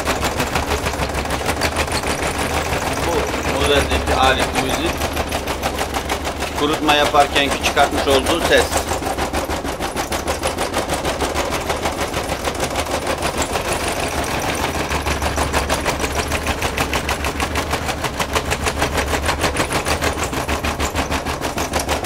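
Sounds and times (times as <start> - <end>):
tumble dryer knocking rattle: 0.0 - 22.0.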